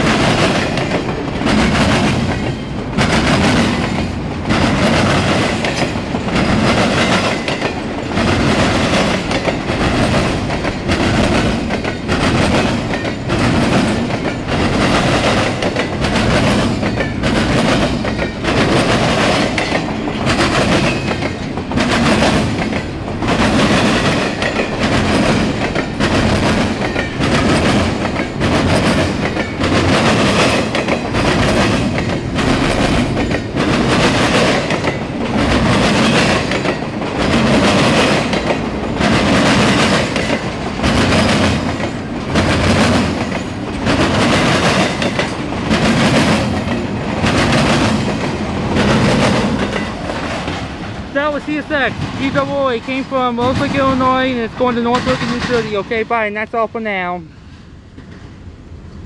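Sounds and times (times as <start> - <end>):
wheels clattering over rail joints: 0.0 - 56.3.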